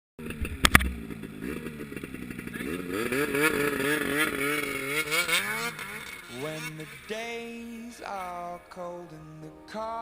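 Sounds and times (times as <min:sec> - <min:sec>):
snowmobile engine revving: 0:00.2 - 0:08.6.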